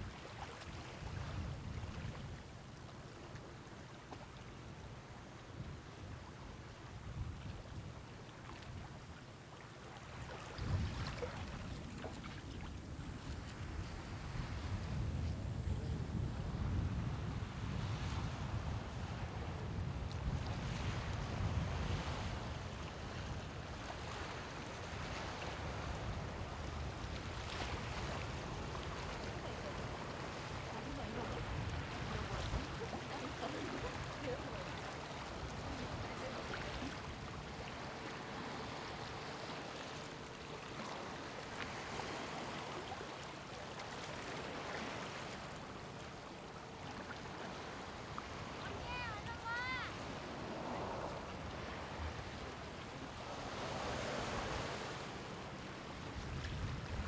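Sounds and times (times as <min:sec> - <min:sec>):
wind rumbling on microphone: 0:00.0 - 0:03.4, 0:04.8 - 0:09.2, 0:10.2 - 0:39.7, 0:47.2 - 0:57.0
sea waves washing onto beach: 0:00.0 - 0:57.0.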